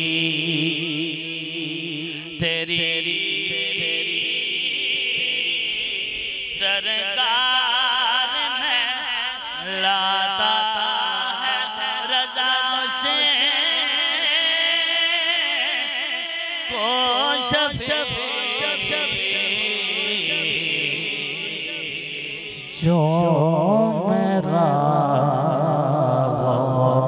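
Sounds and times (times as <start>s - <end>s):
man singing devotional chant: 0.0s - 27.0s.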